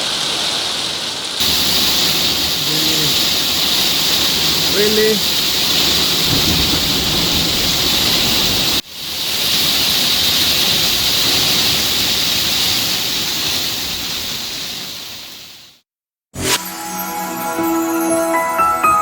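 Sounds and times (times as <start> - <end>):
heavy rain pouring: 0.0 - 15.8.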